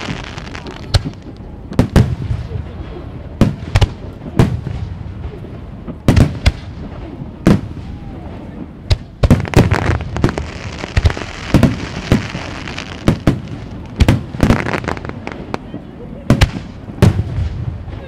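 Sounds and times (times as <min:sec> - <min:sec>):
crackling of firework stars: 0:00.0 - 0:18.0.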